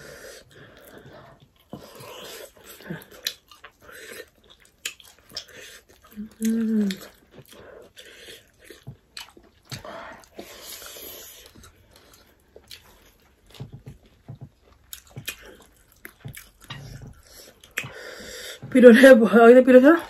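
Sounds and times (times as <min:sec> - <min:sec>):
people chewing food: 0:00.0 - 0:18.9.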